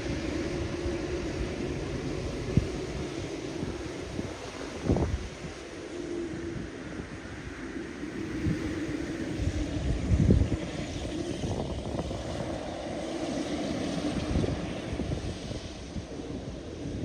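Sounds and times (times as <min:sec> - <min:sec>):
jet engine rumble: 0:00.0 - 0:17.0
wind buffeting microphone: 0:00.0 - 0:17.0.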